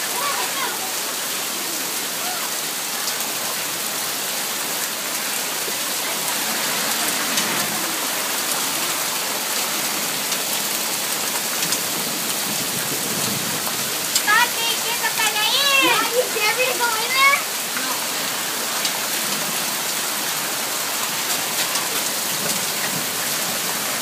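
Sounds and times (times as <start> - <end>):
hard rain pouring: 0.0 - 24.0
hail striking surfaces: 2.2 - 24.0.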